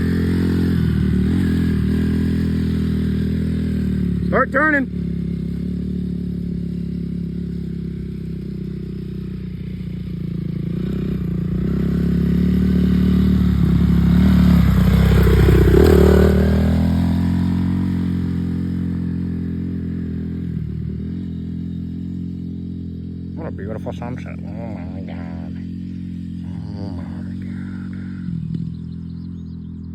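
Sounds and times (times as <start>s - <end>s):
dirt bike passing by: 0.0s - 29.9s.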